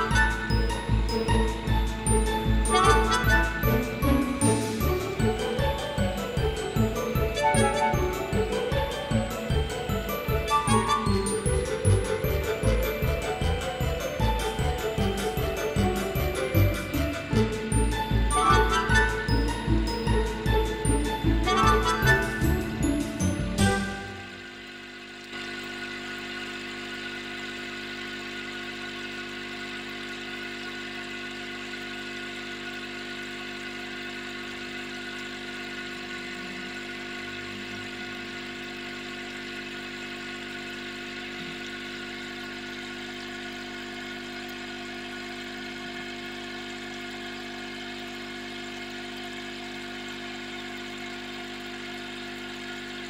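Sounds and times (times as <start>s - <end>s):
small motor humming: 0.0s - 53.0s.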